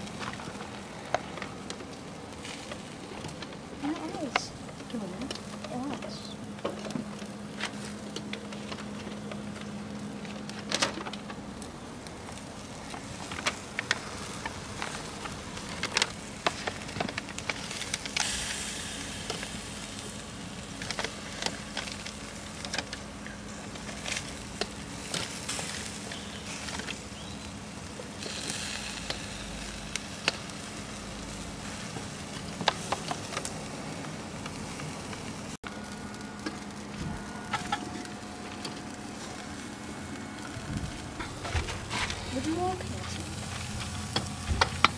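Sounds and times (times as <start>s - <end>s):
chicken sizzling over charcoal: 0.0s - 44.9s
steady low hum: 0.0s - 44.9s.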